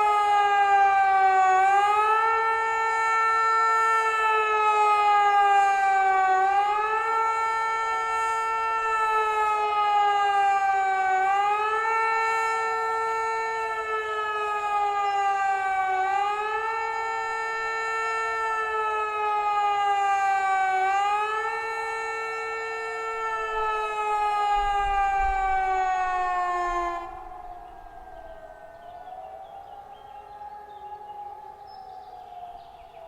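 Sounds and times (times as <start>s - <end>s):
civil defence siren howling: 0.0s - 33.0s.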